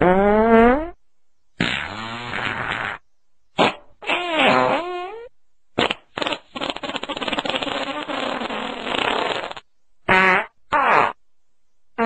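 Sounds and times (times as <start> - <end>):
farting: 0.0 - 1.0, 1.6 - 3.0, 3.6 - 11.2.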